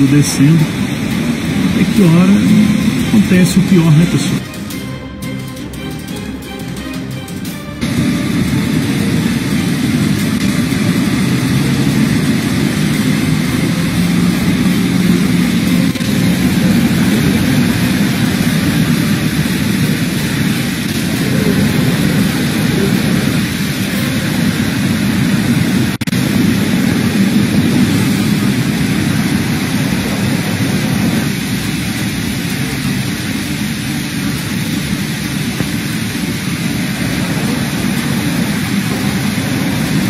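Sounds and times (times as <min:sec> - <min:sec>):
deep rumble: 0:00.0 - 0:40.0
heavy rain downpour: 0:00.0 - 0:40.0.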